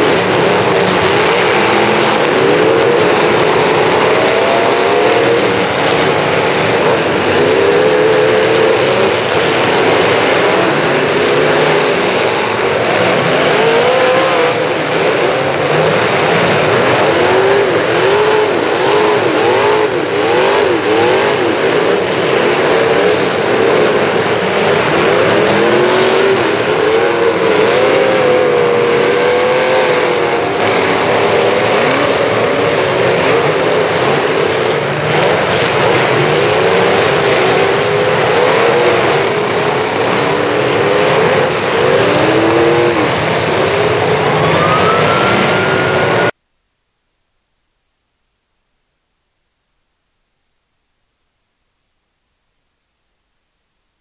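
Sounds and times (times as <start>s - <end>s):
car engines revving: 0.0s - 46.4s.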